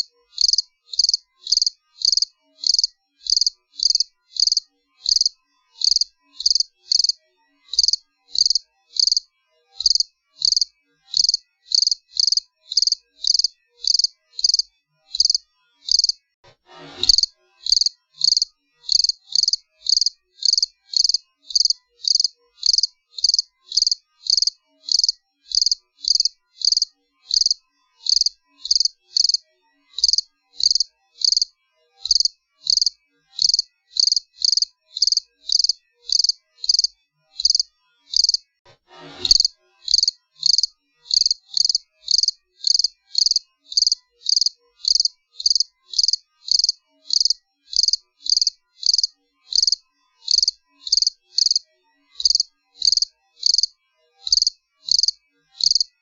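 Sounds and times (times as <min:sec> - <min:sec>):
cricket chirping: 0:00.0 - 0:09.2, 0:09.8 - 0:16.2, 0:17.1 - 0:29.4, 0:30.0 - 0:38.4, 0:39.3 - 0:51.6, 0:52.2 - 0:53.7, 0:54.3 - 0:55.9.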